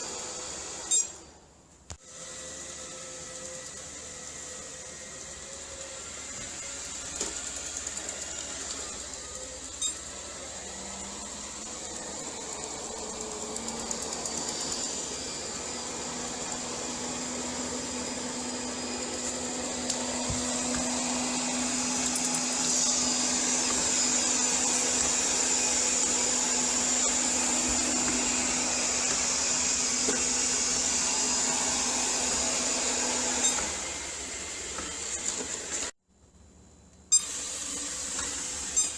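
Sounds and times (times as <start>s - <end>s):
robot vacuum running: 2.0s - 35.9s, 37.1s - 38.9s.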